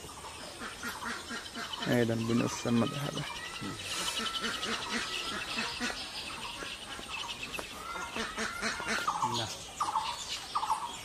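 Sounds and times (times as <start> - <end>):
lower pulsed bird calls: 0.0 - 11.0
small birds chirping: 0.0 - 11.0.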